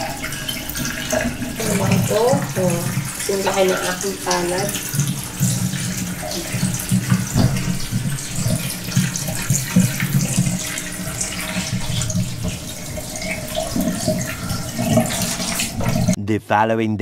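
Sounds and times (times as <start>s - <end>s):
tap water running into sink: 0.0s - 16.2s.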